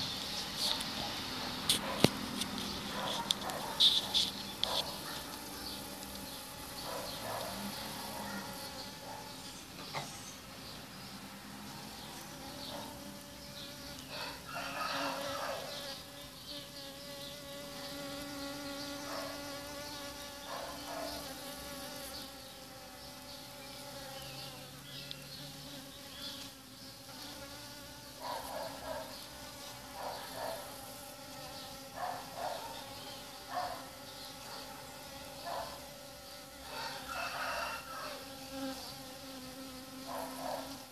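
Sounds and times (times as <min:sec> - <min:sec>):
bees buzzing: 0:00.0 - 0:10.5, 0:11.1 - 0:40.9.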